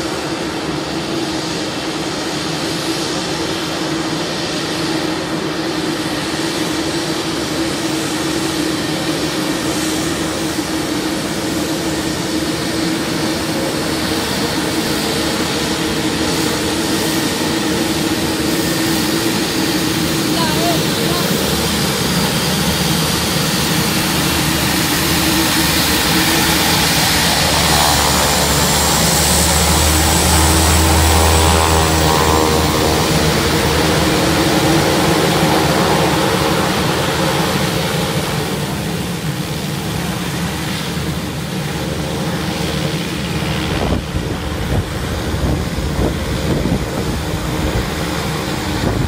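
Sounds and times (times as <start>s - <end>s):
propeller aircraft engines droning: 0.0s - 49.0s.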